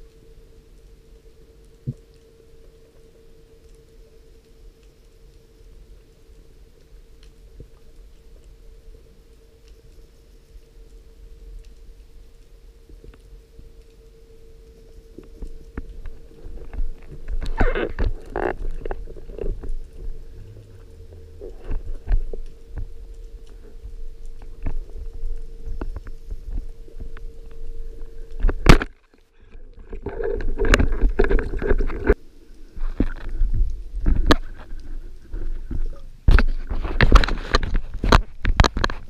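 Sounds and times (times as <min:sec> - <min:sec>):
underwater gurgling: 0:05.0 - 0:39.0.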